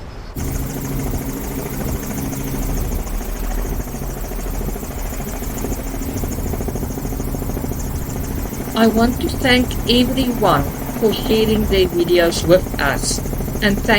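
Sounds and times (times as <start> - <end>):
engine drone: 0.4 - 13.9.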